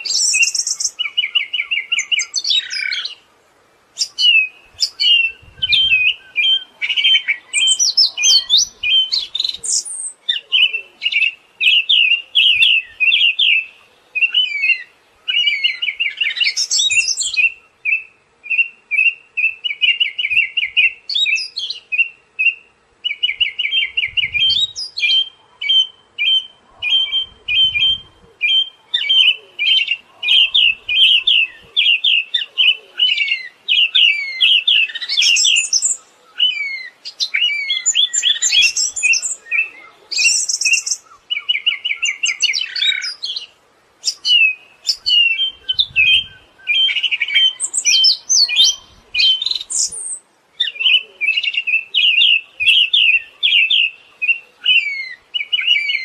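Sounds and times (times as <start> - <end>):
thrush singing trills: 3.9 - 56.0.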